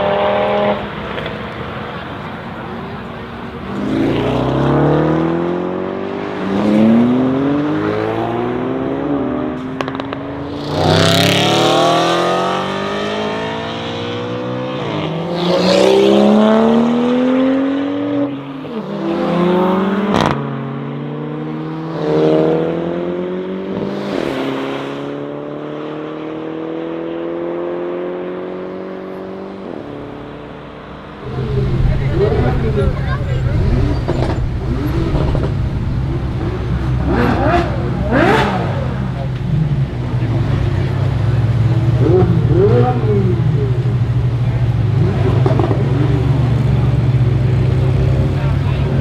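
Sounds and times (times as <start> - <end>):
car engine revving hard: 3.7 - 29.9, 31.2 - 49.0.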